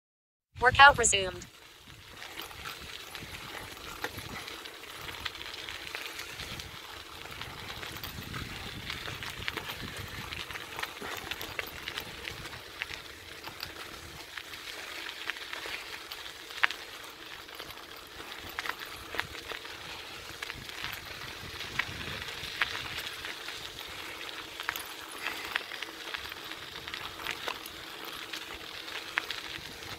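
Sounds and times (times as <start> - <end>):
bicycle tyres crunching on gravel: 1.4 - 29.9.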